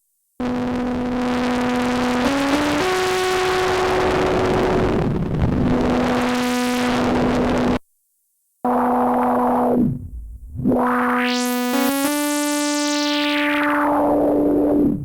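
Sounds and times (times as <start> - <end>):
analog synthesizer notes: 0.4 - 7.8, 8.7 - 15.0.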